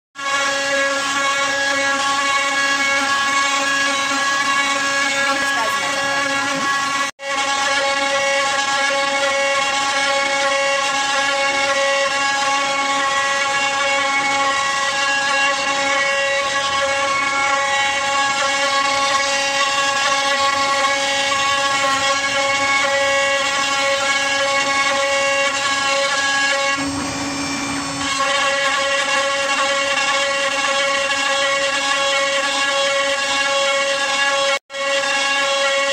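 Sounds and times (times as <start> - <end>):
bit cutting wood: 0.2 - 35.9
router spindle whine: 0.2 - 35.9.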